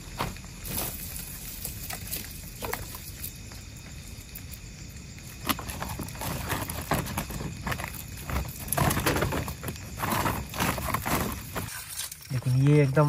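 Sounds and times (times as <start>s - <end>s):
firewood knocking and rustling: 0.0s - 13.0s.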